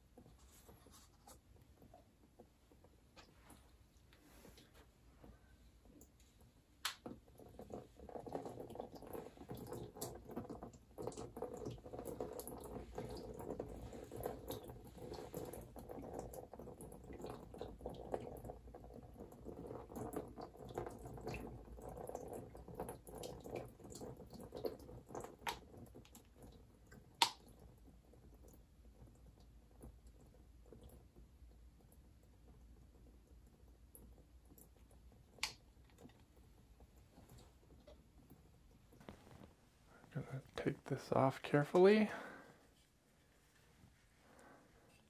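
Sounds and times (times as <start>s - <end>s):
paint dripping onto canvas: 0.0s - 41.0s.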